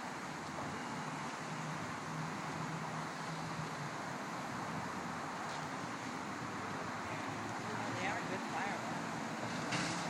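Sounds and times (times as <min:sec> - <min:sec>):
distant traffic: 0:00.0 - 0:10.0.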